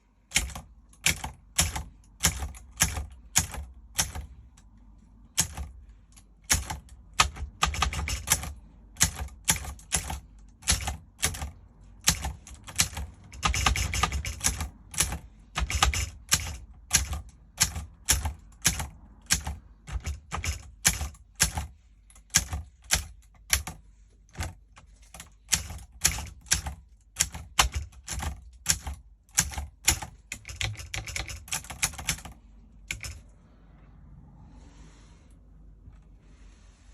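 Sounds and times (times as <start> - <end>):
manual typewriter key strikes: 0.3 - 4.4, 5.3 - 33.2.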